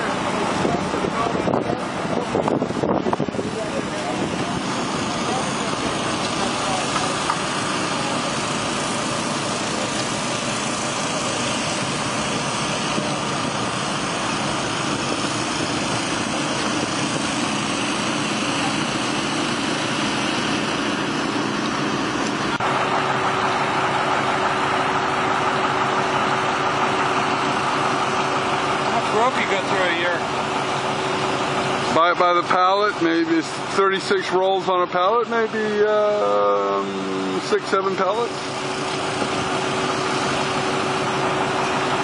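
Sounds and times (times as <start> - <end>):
engines droning: 0.0 - 42.0
steady hum: 0.0 - 42.0.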